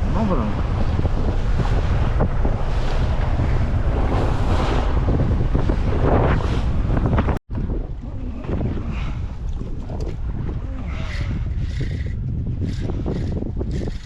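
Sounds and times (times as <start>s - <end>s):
choppy sea water washing: 0.0s - 14.0s
wind buffeting microphone: 0.0s - 14.0s.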